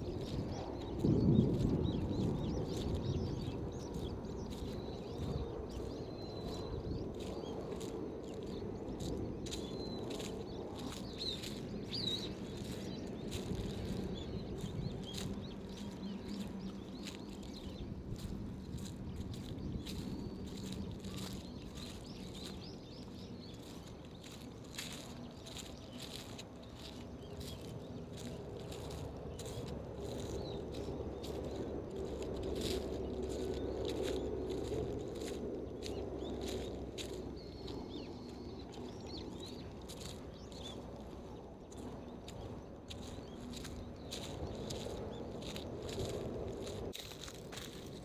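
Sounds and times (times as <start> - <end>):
low rumble: 0.0 - 48.0
outdoor background hum: 0.0 - 48.0
small birds chirping: 0.0 - 48.0
footsteps: 0.1 - 48.0.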